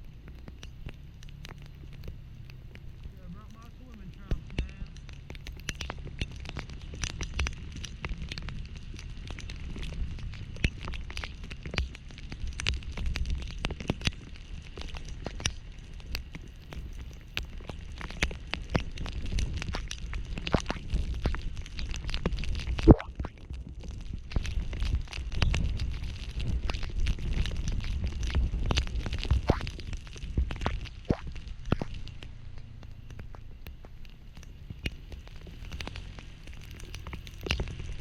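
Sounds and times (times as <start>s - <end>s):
heavy rain hitting microphone: 0.0s - 38.0s
low rumble: 0.0s - 38.0s.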